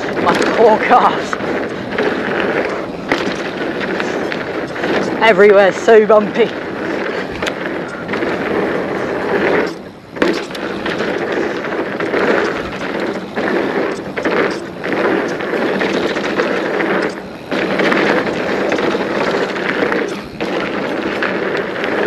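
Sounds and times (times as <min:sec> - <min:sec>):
bike rattling over bumps: 0:00.0 - 0:22.0
tyres on rough ground: 0:00.0 - 0:22.0
wind on microphone: 0:00.0 - 0:22.0.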